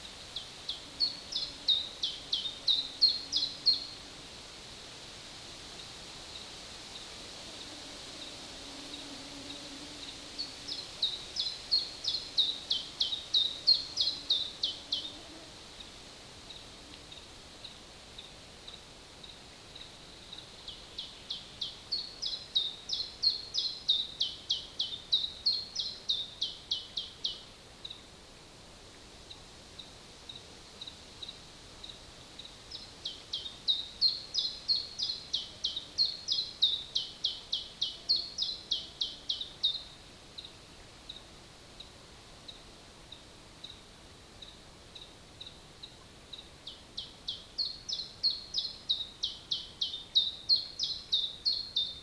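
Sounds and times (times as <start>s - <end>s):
songbird singing: 0.0s - 4.1s, 7.6s - 28.1s, 29.3s - 52.0s
forest hiss: 0.0s - 52.0s.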